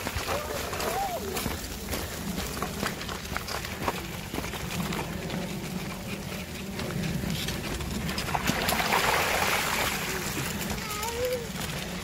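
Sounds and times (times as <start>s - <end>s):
trike wheels rolling on gravel: 0.0s - 12.0s.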